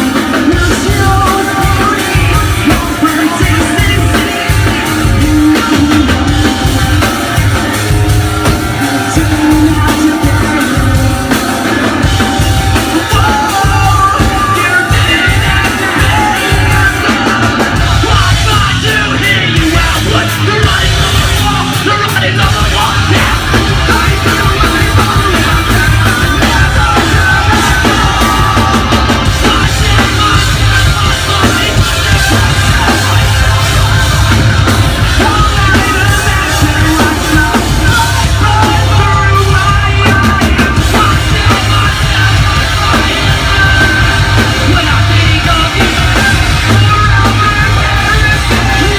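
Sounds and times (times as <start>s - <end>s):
loud live rock band: 0.0s - 48.9s
yelled vocals: 0.0s - 48.9s.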